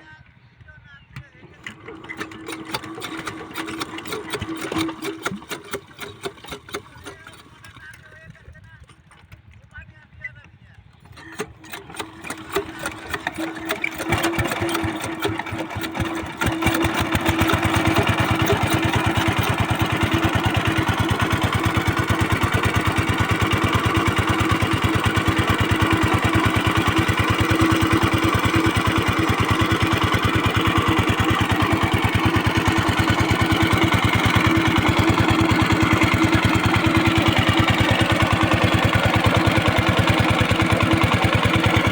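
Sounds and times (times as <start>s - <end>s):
diesel water pump engine: 1.4s - 8.6s, 11.0s - 41.9s.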